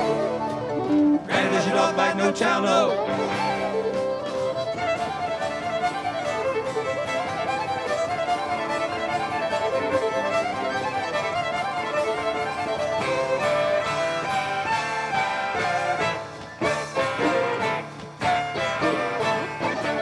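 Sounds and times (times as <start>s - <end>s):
country band playing: 0.0s - 20.0s
fiddle playing fast runs: 0.0s - 20.0s.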